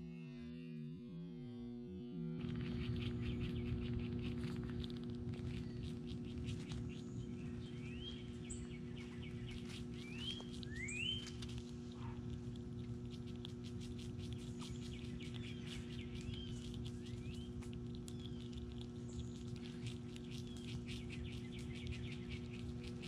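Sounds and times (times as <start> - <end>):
steady low hum: 0.8 - 23.0
small animals clicking and pattering: 2.4 - 23.0.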